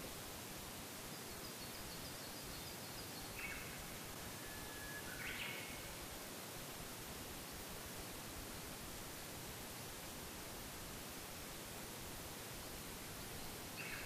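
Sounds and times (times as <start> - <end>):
steady background hiss: 0.0 - 14.0
faint birdsong: 0.8 - 10.1, 11.3 - 14.0.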